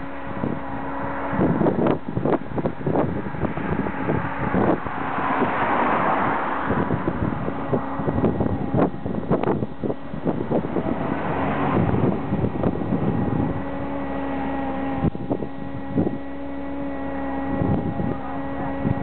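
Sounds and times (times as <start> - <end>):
steady motor hum: 0.0 - 19.0
wind buffeting microphone: 0.0 - 19.0.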